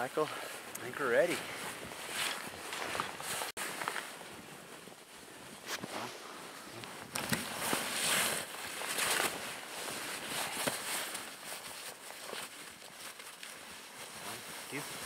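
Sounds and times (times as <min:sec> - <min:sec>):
scraping and packing powder snow: 0:00.0 - 0:15.0
snow clothing rustling: 0:00.0 - 0:15.0.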